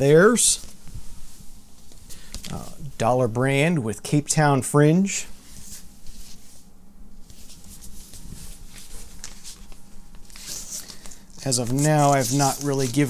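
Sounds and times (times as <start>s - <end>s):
record jackets rustling: 0.0s - 3.1s, 5.2s - 13.0s.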